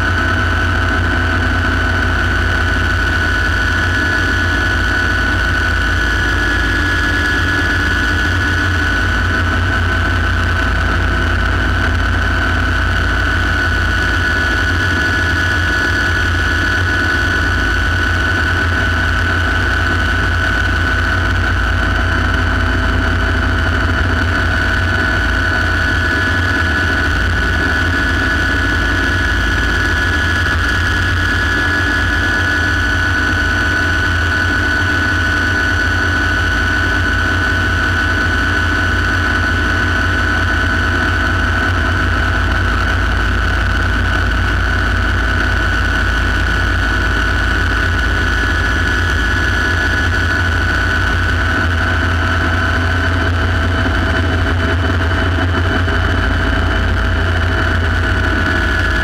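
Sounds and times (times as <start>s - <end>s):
helicopter low rumble: 0.0s - 59.0s
helicopter turbine whine: 0.0s - 59.0s.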